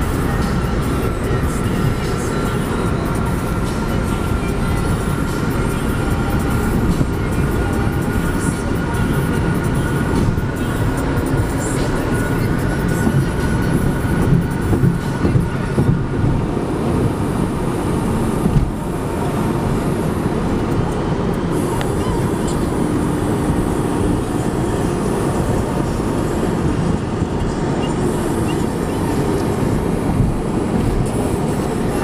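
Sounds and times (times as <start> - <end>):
engine drone: 0.0 - 32.0.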